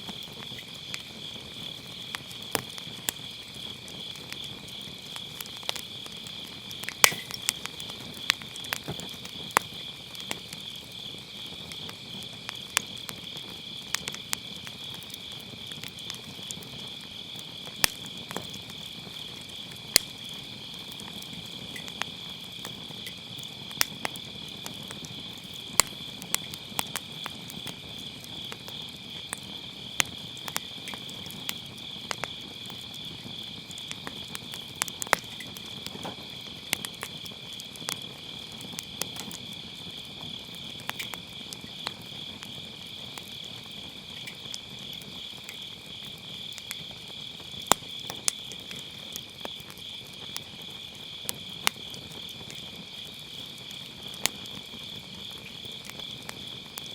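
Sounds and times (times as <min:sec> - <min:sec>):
firewood popping and crackling: 0:00.0 - 0:56.9
night insects chorus: 0:00.0 - 0:56.9.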